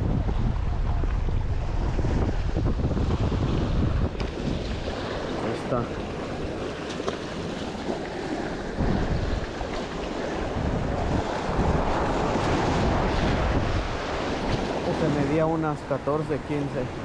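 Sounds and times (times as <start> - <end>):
sea waves breaking over rocks: 0.0 - 17.0
wind buffeting microphone: 0.0 - 17.0.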